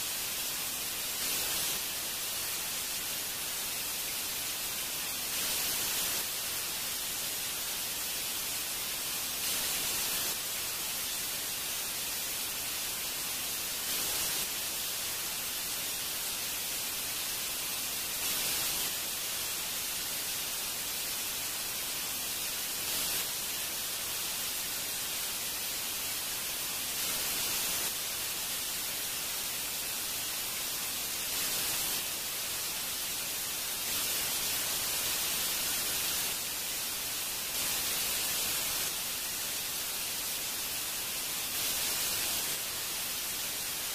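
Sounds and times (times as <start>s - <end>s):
steady static hiss: 0.0s - 43.9s.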